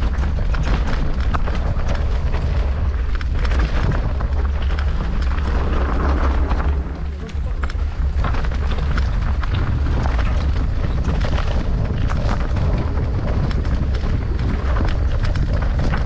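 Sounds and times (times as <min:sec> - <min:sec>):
bike clattering over rocky trail: 0:00.0 - 0:16.0
wind buffeting microphone: 0:00.0 - 0:16.0.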